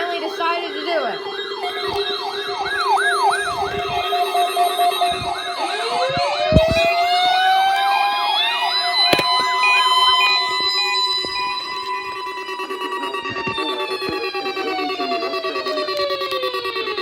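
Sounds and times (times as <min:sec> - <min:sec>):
siren wail: 0:00.0 - 0:17.0
siren yelp: 0:00.0 - 0:17.0
steady lower siren tones: 0:00.0 - 0:17.0.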